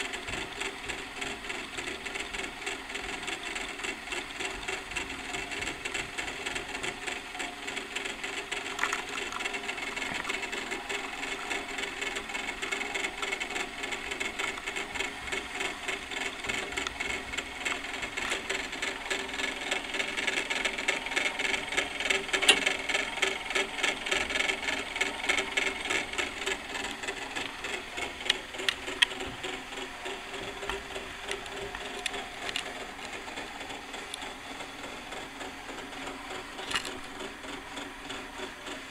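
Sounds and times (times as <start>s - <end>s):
clockwork gears clicking: 0.0s - 38.5s.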